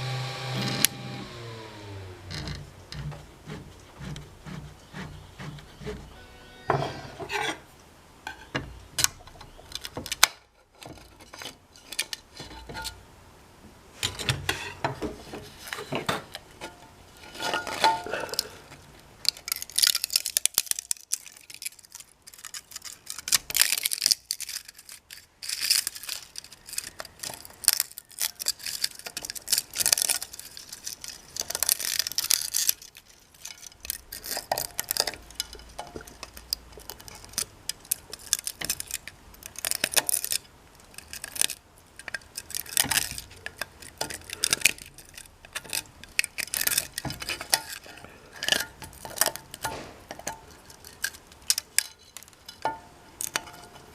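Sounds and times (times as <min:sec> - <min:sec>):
plastic parts clicking and clattering: 0:08.3 - 0:12.9, 0:14.0 - 0:53.9.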